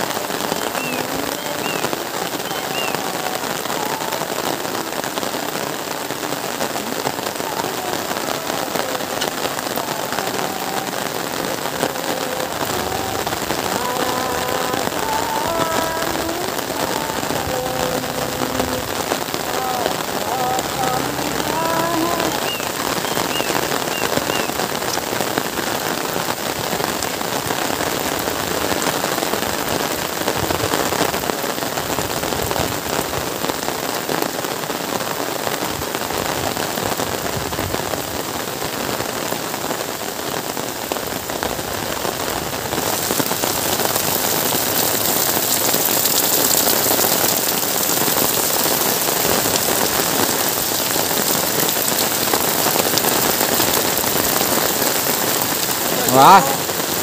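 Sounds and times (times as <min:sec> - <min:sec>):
heavy rain on paved road: 0:00.0 - 0:57.0.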